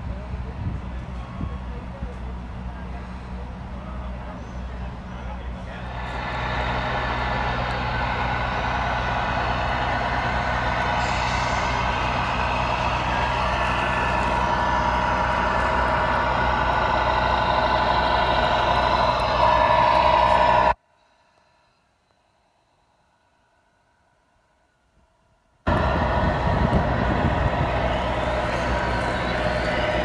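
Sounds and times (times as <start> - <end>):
diesel engine sound from small speaker: 0.0 - 20.8, 25.7 - 30.0.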